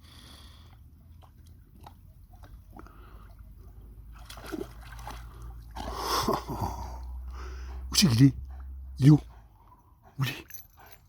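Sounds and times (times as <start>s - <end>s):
dog swimming and splashing: 0.5s - 11.0s.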